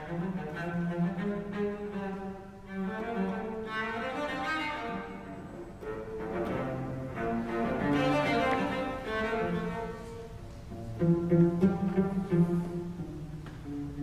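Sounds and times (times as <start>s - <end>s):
bowed cello melody: 0.0s - 14.0s.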